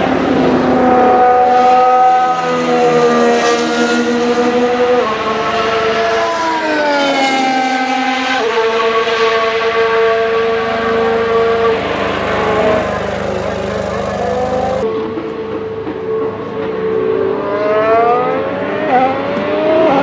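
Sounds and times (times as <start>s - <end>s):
racing car engine at high revs: 0.0s - 14.8s, 17.3s - 20.0s.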